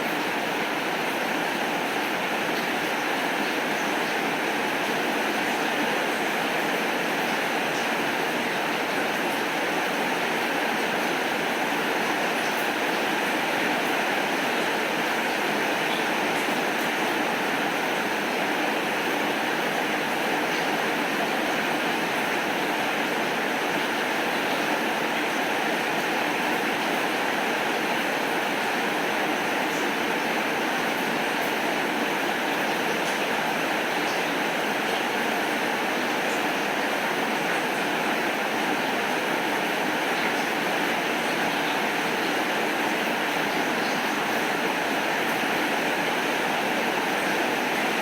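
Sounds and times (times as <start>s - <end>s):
steady rainfall: 0.0s - 48.0s.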